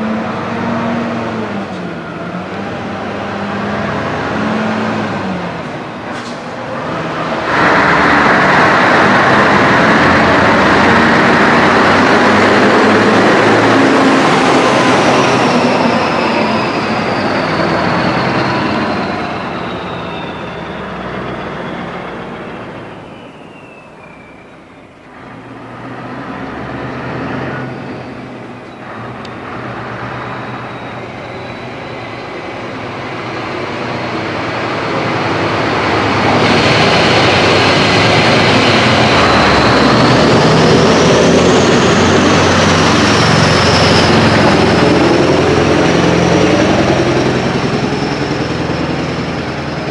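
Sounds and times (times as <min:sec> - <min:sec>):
heavy trucks driving past: 0:00.0 - 0:49.9
high whine: 0:03.0 - 0:49.9.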